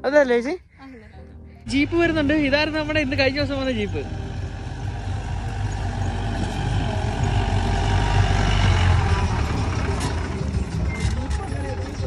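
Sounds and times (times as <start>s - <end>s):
jeep engine running: 1.7s - 12.0s.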